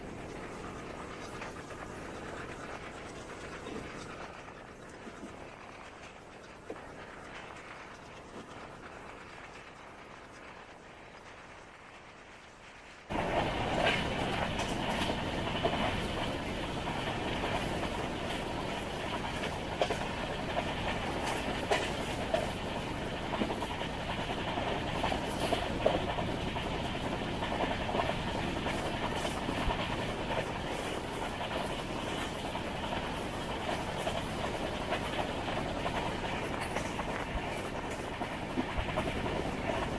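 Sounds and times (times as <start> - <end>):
wheels clicking over rail joints: 0.0 - 11.9, 13.0 - 39.9
train rumbling on track: 0.0 - 39.9.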